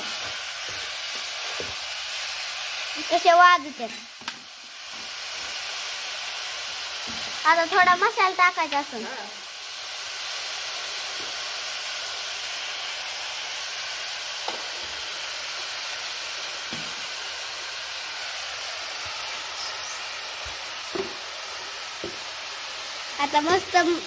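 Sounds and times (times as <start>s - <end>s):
bean pods sizzling in oil: 0.0s - 24.0s.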